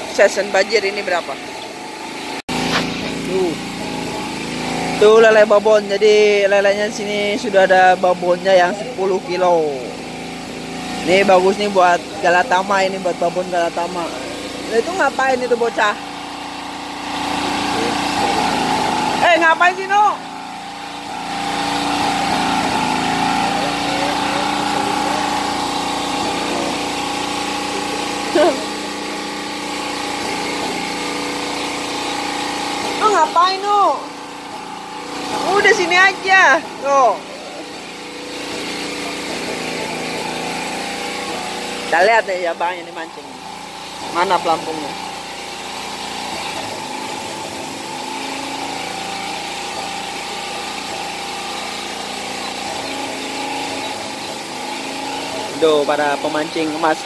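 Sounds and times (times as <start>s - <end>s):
small engine humming: 0.0s - 57.0s.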